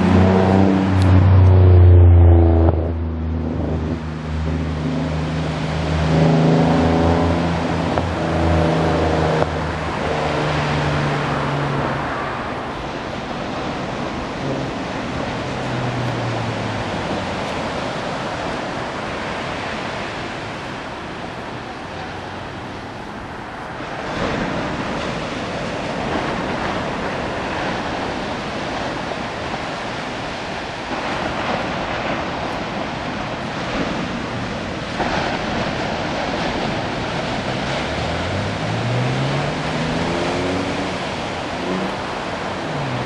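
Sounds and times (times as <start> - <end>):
waves breaking on beach: 0.0 - 1.9, 2.8 - 43.0.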